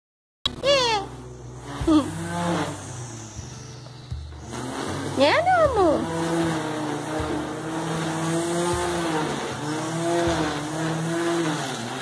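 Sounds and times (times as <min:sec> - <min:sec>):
string trimmer whining: 0:00.5 - 0:12.0.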